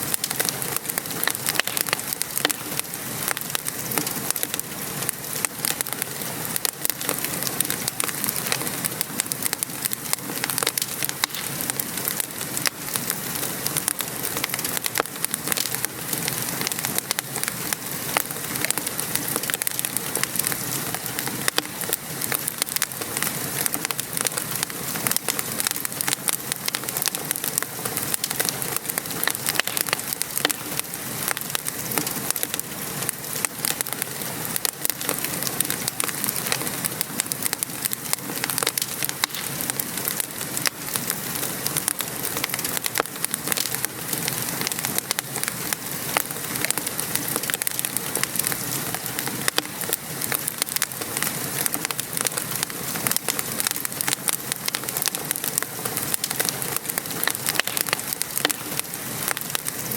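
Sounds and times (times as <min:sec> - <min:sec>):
fireplace fire crackling: 0:00.0 - 0:59.9
rain patter: 0:00.0 - 0:59.9.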